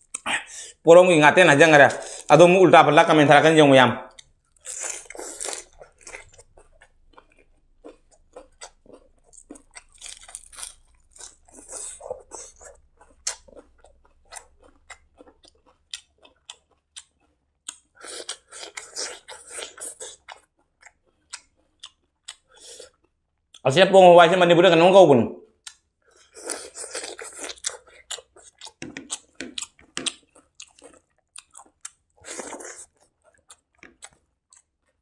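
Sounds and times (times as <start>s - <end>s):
wet chewing and mouth clicks: 4.1s - 23.6s, 25.6s - 35.0s.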